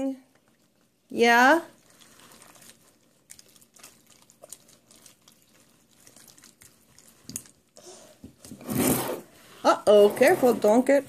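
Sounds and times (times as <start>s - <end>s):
wet slime squelches: 0.0s - 11.0s.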